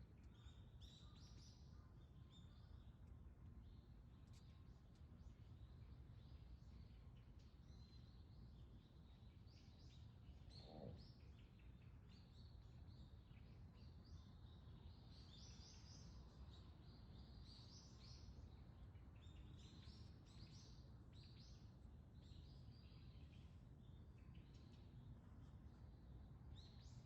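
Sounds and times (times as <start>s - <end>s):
small birds chirping: 3.6s - 27.0s.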